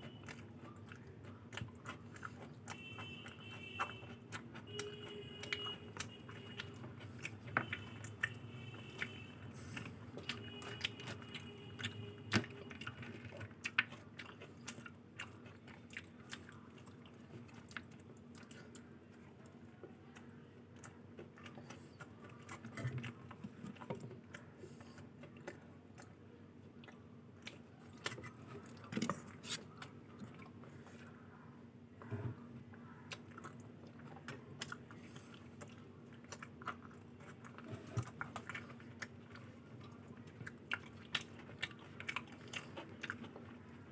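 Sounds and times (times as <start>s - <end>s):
close-up chewing: 0.0s - 43.9s.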